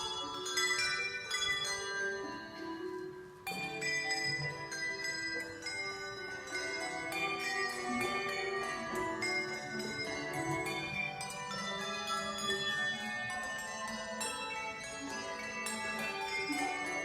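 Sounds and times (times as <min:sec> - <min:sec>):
handbell choir playing: 0:00.0 - 0:17.0.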